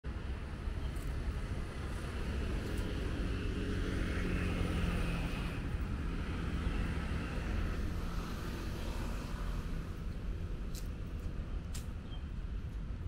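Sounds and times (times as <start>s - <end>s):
road traffic rumble: 0.1s - 13.0s.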